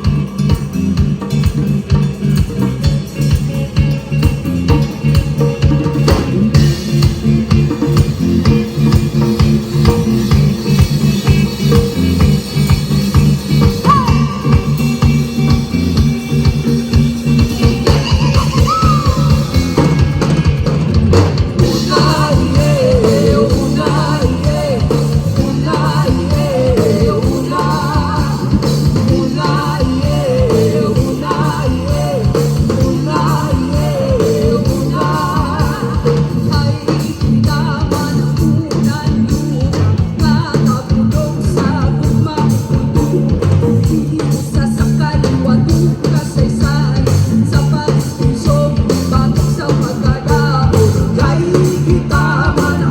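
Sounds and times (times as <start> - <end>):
rock song with singer: 0.0 - 52.9.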